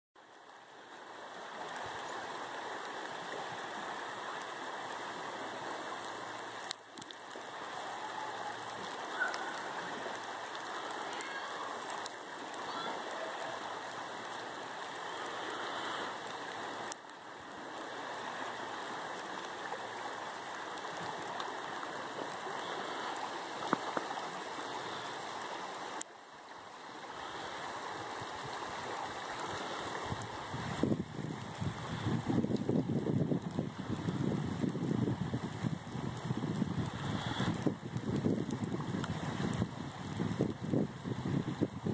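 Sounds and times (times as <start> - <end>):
river water rushing: 0.2 - 41.9.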